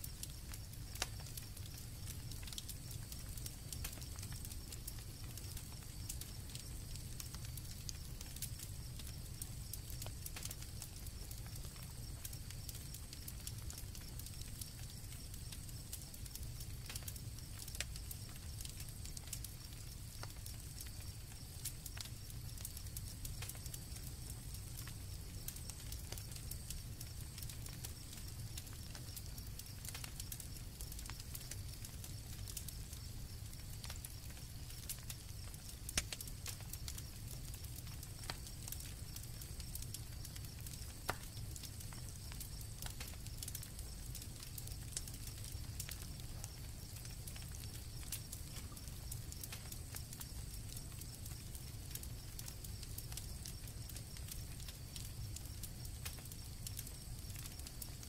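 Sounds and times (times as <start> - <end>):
campfire crackling: 0.0 - 58.0
crickets chirping: 0.0 - 58.0
fire low rumble: 0.0 - 58.0.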